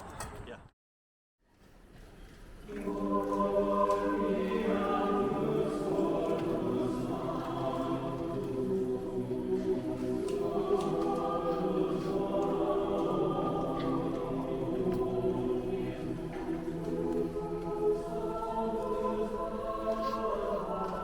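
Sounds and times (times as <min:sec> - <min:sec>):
choir singing long notes: 0:02.7 - 0:21.0.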